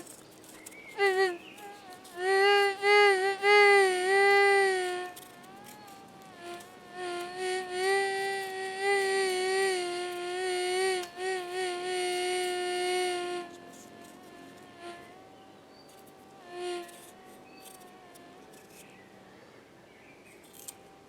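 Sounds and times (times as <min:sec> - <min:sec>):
flying insect buzzing: 0:00.0 - 0:19.0.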